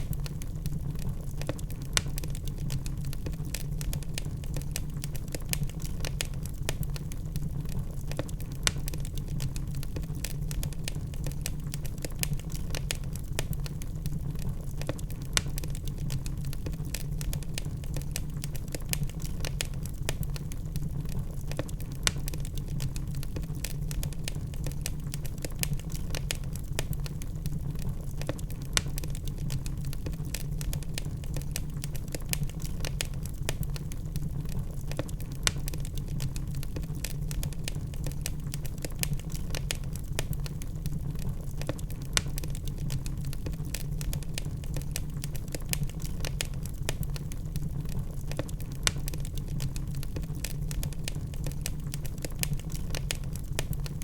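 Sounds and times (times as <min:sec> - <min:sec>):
sharp pops and snaps: 0:00.0 - 0:54.0
wood fire crackling: 0:00.0 - 0:54.0.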